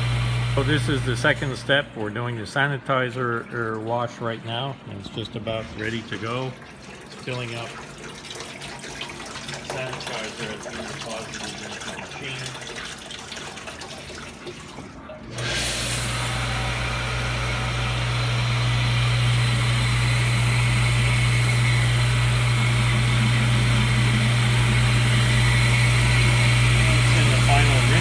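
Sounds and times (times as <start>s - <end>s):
water spraying inside machine: 0.0s - 2.0s, 5.8s - 28.0s
pump low hum: 0.0s - 2.4s, 3.1s - 28.0s.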